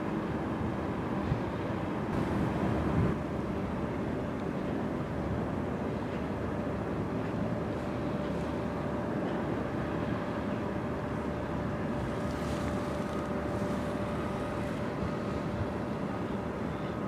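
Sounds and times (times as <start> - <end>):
faint steady hum: 0.0 - 17.0
ship engine rumble: 0.0 - 17.0.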